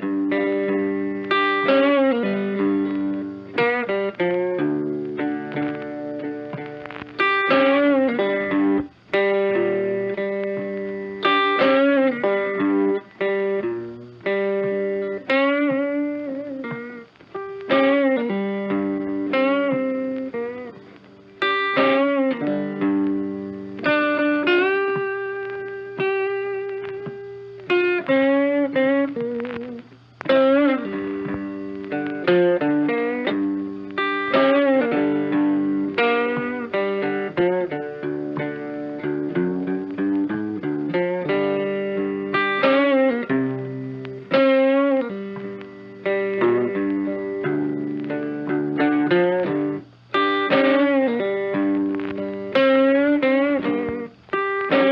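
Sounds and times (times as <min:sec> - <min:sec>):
electric guitar melody: 0:00.0 - 0:54.9.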